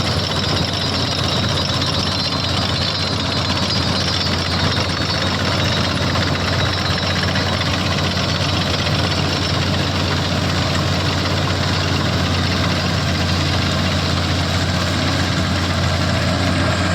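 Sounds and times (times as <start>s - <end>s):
combine harvester engine running: 0.0s - 16.9s.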